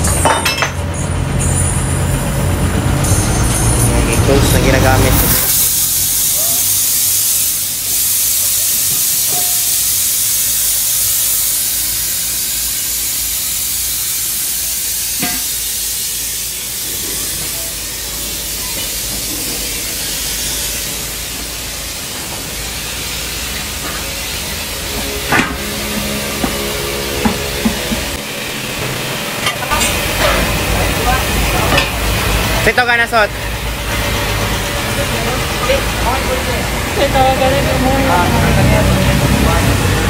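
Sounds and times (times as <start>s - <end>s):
air hissing: 4.5s - 38.2s.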